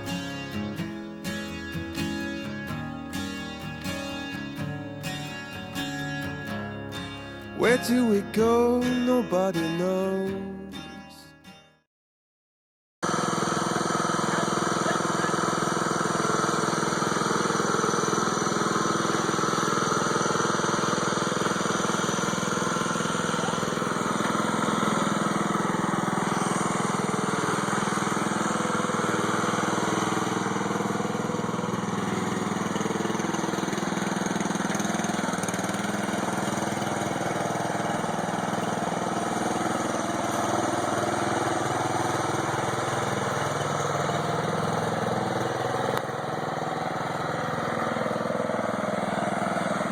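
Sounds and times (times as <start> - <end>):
lawnmower engine running: 0.0 - 10.7, 13.0 - 49.9.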